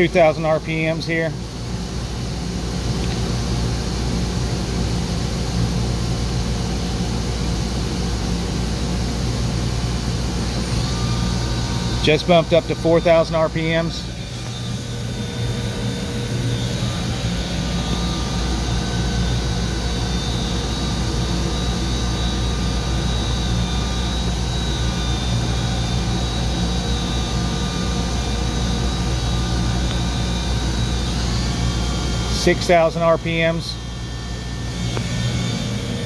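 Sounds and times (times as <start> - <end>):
low hum: 0.0 - 36.0
machine spindle whine: 0.0 - 36.0.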